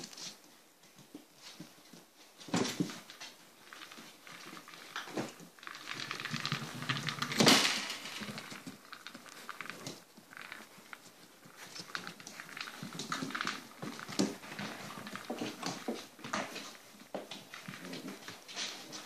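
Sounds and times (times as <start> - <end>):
patter of small claws: 0.0 - 19.0
ball knocking and rolling on tiles: 2.5 - 19.0.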